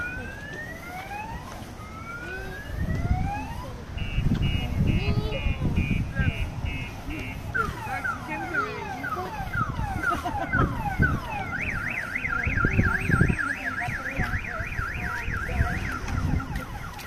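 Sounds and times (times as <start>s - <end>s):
car alarm chirps and warble: 0.0s - 17.0s.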